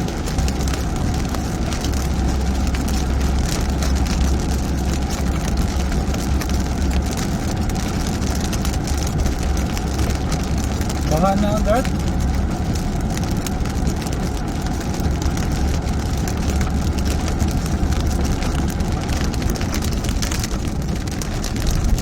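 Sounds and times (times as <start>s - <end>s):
car driving rumble: 0.0s - 22.0s
heavy rain on car roof: 0.0s - 22.0s.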